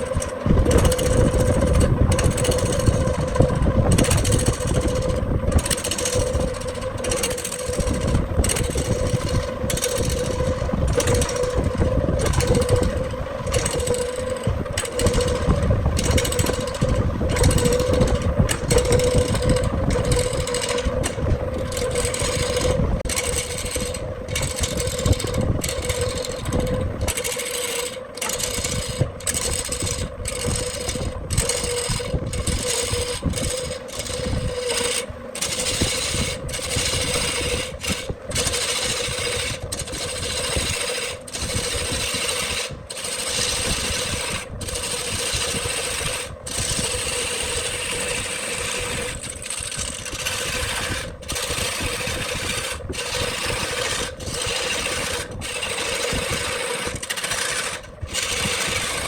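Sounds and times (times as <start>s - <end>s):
lathe motor hum: 0.0s - 59.0s
tool scraping spinning wood: 0.0s - 59.0s.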